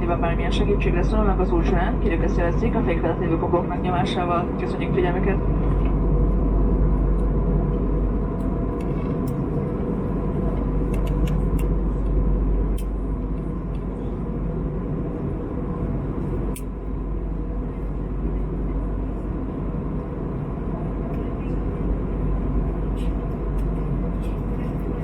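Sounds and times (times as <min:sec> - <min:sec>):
aircraft cabin engine rush: 0:00.0 - 0:25.0.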